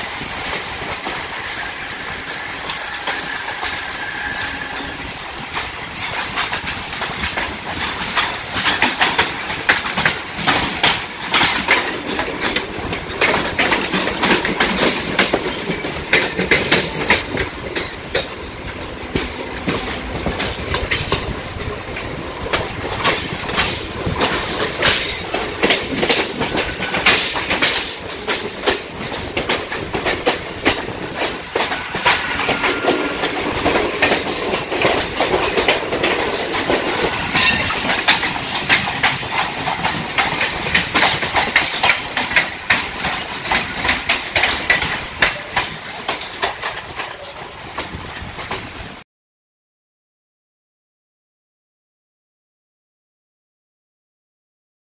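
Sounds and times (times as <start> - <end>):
train wheels clattering: 0.0 - 48.8
train rumble: 0.0 - 49.0.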